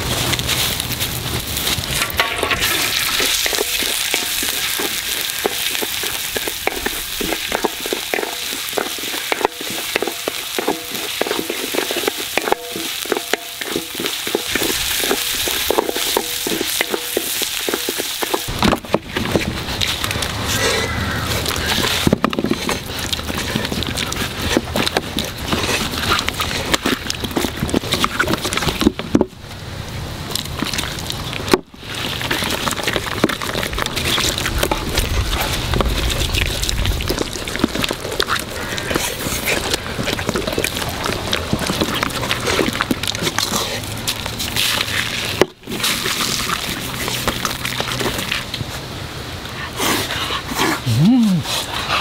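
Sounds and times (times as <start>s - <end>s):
hands kneading wet paste: 0.0s - 29.2s, 30.0s - 52.0s.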